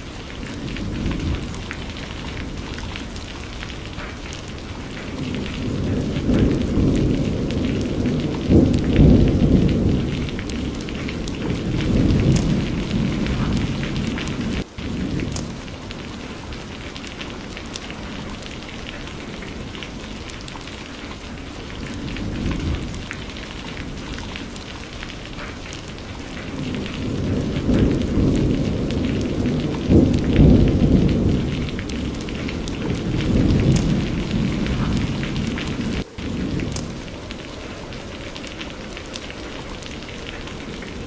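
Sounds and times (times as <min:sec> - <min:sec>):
rain falling: 0:00.0 - 0:41.0
thunder rolling: 0:00.0 - 0:41.0.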